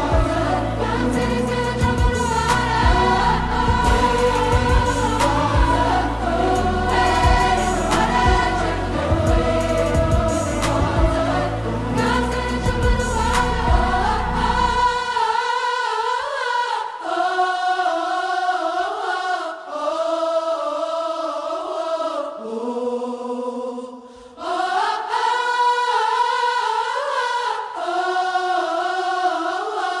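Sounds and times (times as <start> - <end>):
voices singing in harmony: 0.0 - 30.0.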